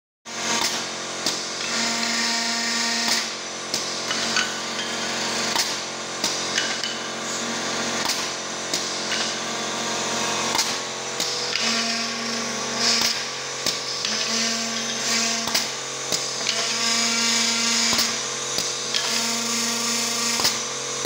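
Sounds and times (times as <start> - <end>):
drill motors humming: 0.3 - 21.0.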